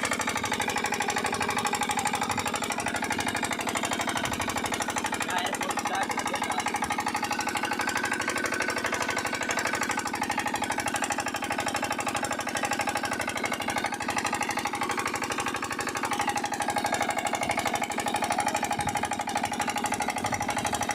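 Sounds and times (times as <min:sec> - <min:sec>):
diesel engine running steadily: 0:00.0 - 0:20.9.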